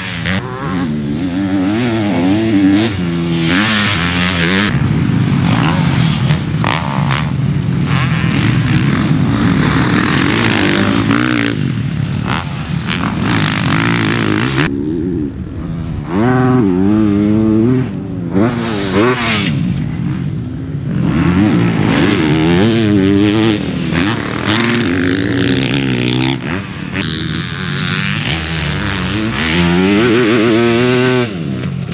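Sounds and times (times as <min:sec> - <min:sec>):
motocross bike engines revving: 0:00.0 - 0:31.9.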